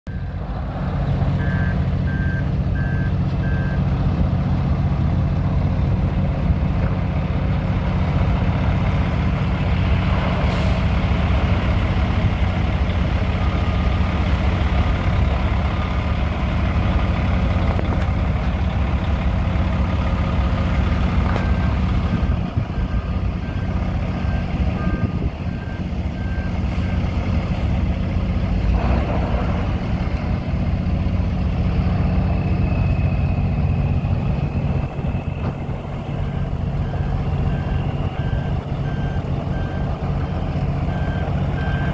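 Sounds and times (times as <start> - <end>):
truck diesel engine droning: 0.1 - 41.9.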